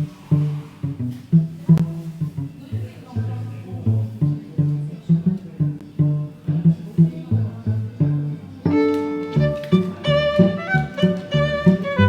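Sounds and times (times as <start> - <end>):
low plucked string notes: 0.0 - 12.0
sustained string melody: 0.0 - 12.0.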